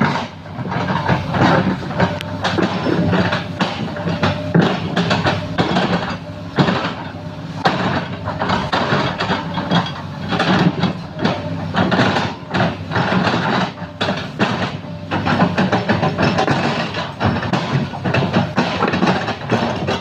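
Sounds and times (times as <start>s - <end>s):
heavy diesel machinery running: 0.0s - 20.0s
metal clanks and knocks: 0.0s - 20.0s.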